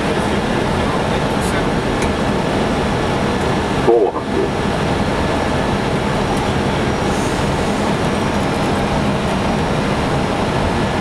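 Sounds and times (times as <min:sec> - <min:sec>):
aircraft engine noise: 0:00.0 - 0:11.0.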